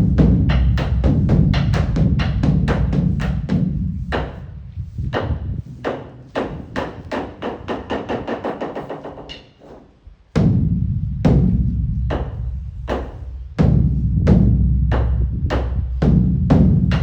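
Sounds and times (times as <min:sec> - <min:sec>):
large drum beaten with sticks: 0:00.0 - 0:09.0, 0:10.3 - 0:17.0.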